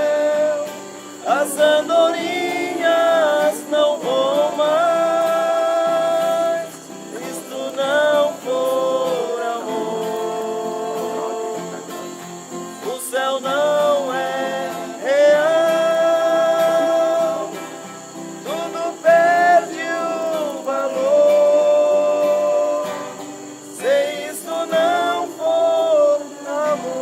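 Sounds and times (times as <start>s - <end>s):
guitar accompaniment: 0.0s - 27.0s
voices singing a hymn: 0.0s - 27.0s.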